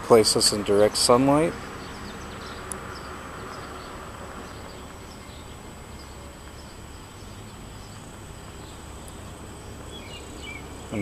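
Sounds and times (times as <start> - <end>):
faint insect sounds: 0.1 - 11.0.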